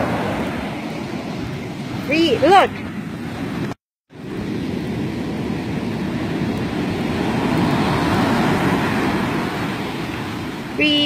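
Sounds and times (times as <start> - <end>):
ocean surf on a beach: 0.0 - 11.0.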